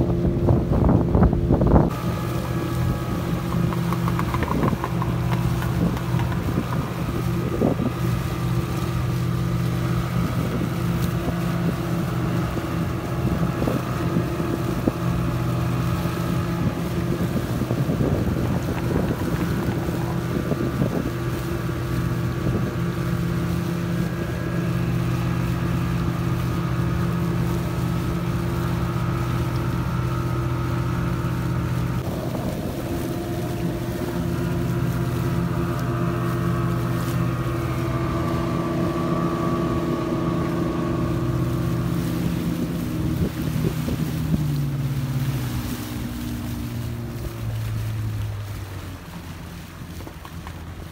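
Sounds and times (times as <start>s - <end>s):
outboard engines running: 0.0s - 50.9s
water splashing against hull: 0.0s - 50.9s
wind on microphone: 0.0s - 50.9s.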